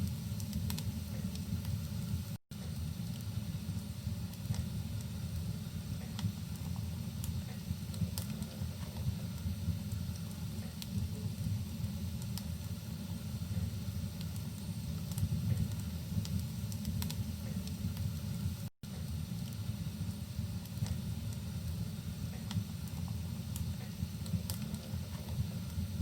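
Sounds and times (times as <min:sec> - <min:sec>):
fire crackling and popping: 0:00.0 - 0:26.0
fire low rumble: 0:00.0 - 0:26.0.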